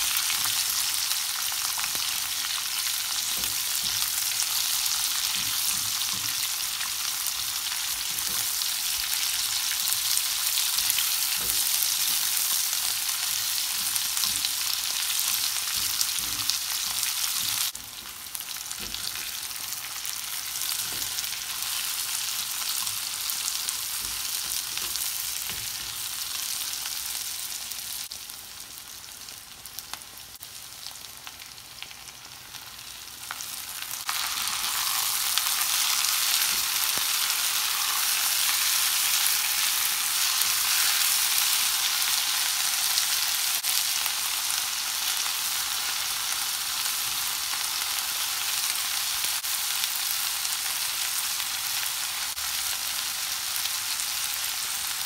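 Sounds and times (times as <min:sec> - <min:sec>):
onions sizzling in a pan: 0:00.0 - 0:55.0.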